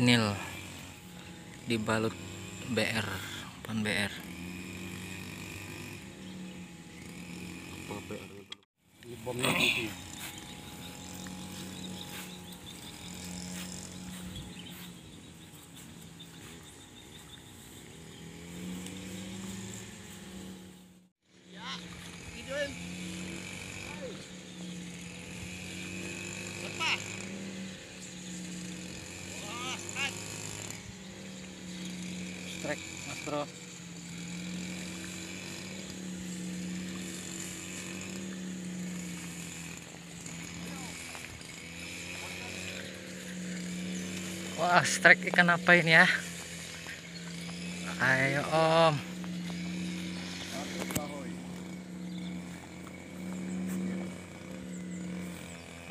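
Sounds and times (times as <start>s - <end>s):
motor engine running: 0.0s - 55.9s.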